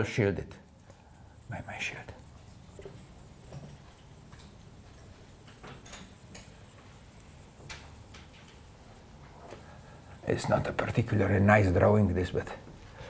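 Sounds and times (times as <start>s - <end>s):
marker drawing on a whiteboard: 0.0s - 12.5s
low room hum: 0.0s - 13.0s.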